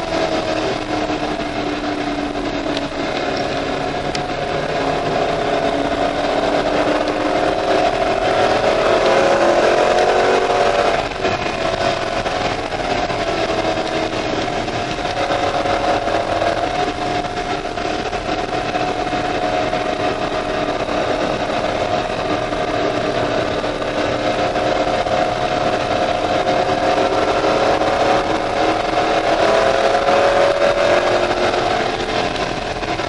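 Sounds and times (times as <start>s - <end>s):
car engine running hard: 0.0s - 33.0s
wind noise: 0.0s - 33.0s.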